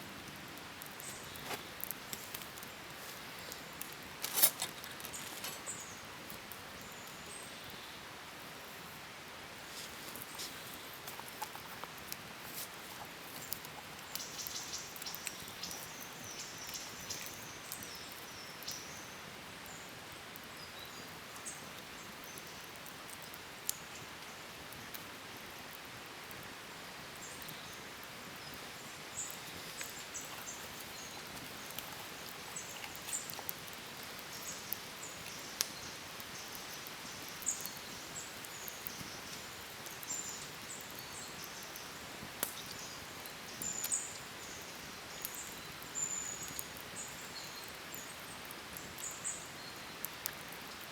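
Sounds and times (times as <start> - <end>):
steady hiss: 0.0 - 50.8.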